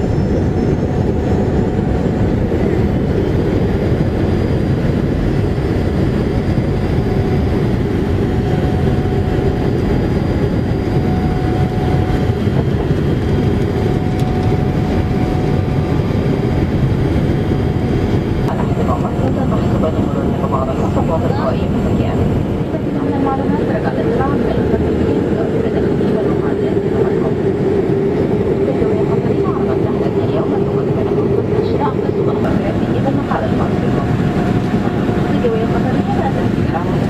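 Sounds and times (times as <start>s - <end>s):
ship engine noise: 0.0s - 37.0s.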